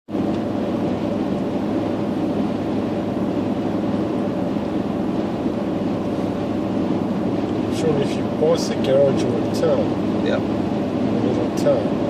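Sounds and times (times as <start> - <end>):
vehicle engine and road noise: 0.1 - 12.0.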